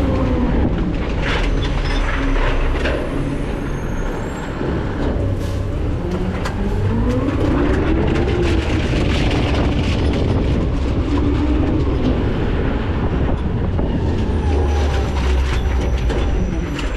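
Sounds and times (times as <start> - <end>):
clanking and rattling: 0.0 - 16.9
garbage truck engine rumbling: 0.0 - 16.9.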